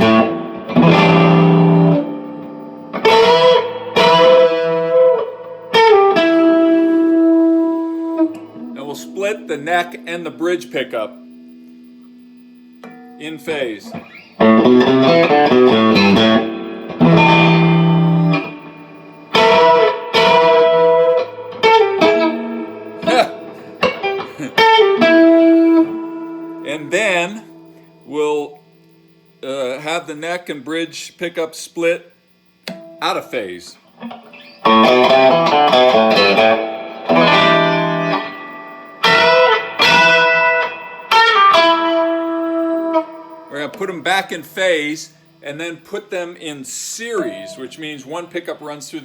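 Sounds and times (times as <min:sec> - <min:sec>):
electric guitar notes: 0:00.0 - 0:30.0, 0:32.6 - 0:48.8.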